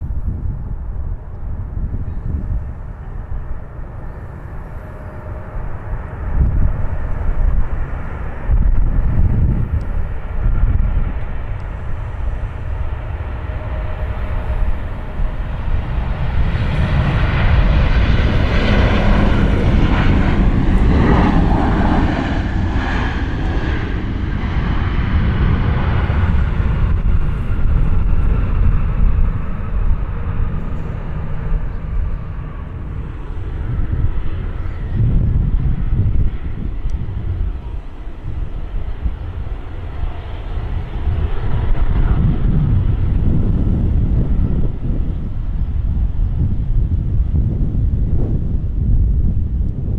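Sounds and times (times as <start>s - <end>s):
airliner passing overhead: 0.0s - 49.9s
wind rumbling on microphone: 0.0s - 49.9s.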